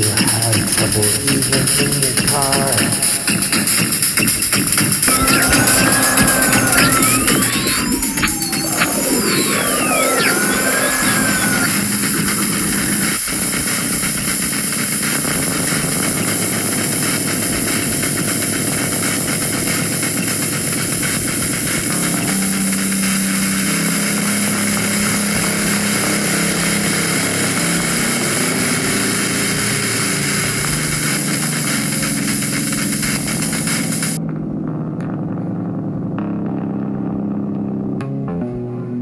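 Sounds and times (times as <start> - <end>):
experimental electronic music: 0.0 - 39.0.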